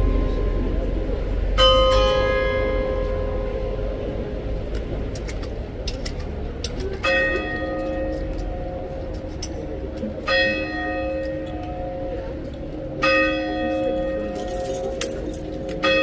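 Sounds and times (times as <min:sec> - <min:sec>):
clock bell striking: 0:00.0 - 0:04.8, 0:07.0 - 0:16.0
low background noise: 0:00.0 - 0:16.0.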